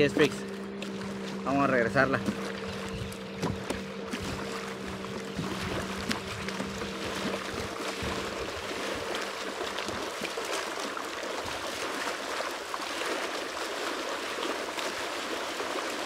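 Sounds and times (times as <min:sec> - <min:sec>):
small waves lapping on sand: 0:00.0 - 0:16.0
water splashing around feet: 0:00.0 - 0:16.0.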